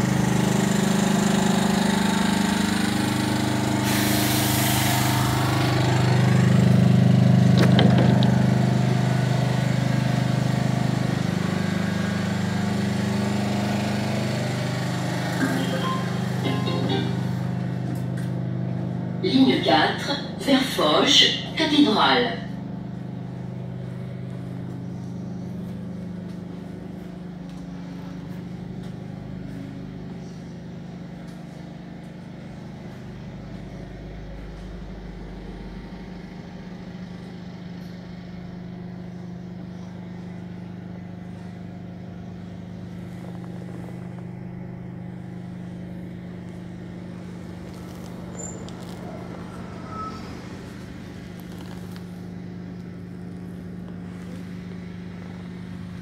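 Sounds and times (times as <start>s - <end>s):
bus engine hum: 0.0s - 56.0s.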